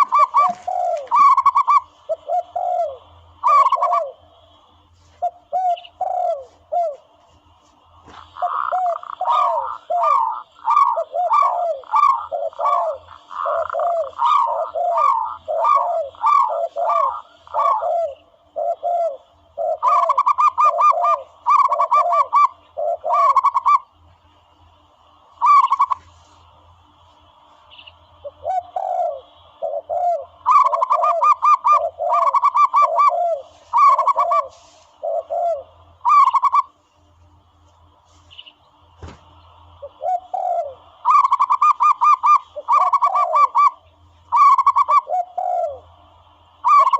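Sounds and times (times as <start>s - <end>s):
dove coos from a caller: 0.0s - 24.1s, 25.1s - 27.4s, 28.2s - 36.8s, 39.2s - 46.9s.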